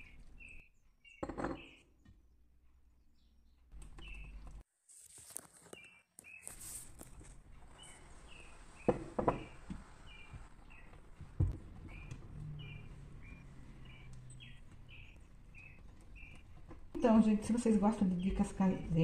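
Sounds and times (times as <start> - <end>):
small bird chirping: 0.0 - 2.2, 2.9 - 4.6, 5.6 - 19.0.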